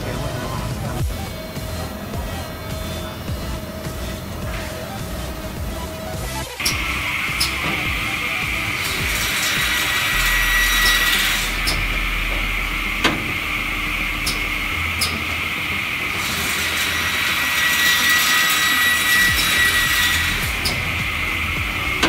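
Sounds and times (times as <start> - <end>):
panel saw whine: 0.0 - 22.0.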